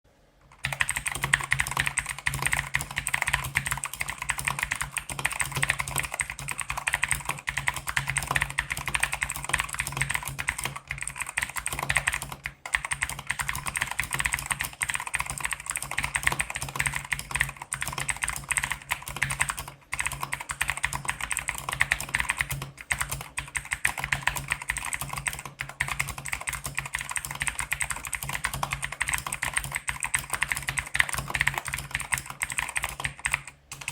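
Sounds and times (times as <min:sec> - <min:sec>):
fast typing on mechanical keyboard: 0:00.4 - 0:33.9.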